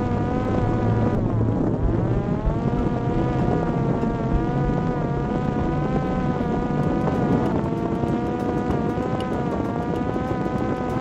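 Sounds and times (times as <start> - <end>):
drone motor and propeller hum: 0.0 - 11.0
wind rumble on microphone: 0.0 - 11.0.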